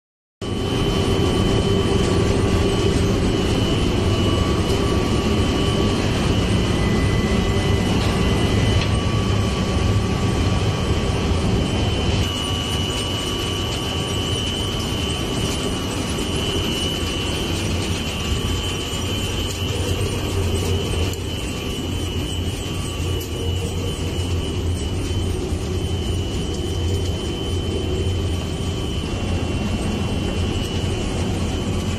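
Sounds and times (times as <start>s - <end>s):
high machine whine: 0.4s - 31.9s
machinery motors droning: 0.5s - 31.9s.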